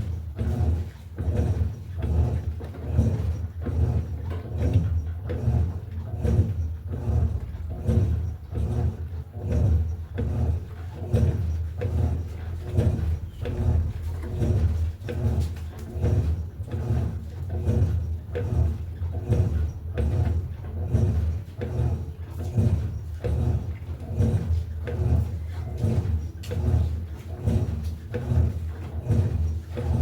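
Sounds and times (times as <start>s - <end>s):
washing machine motor humming: 0.0s - 30.0s.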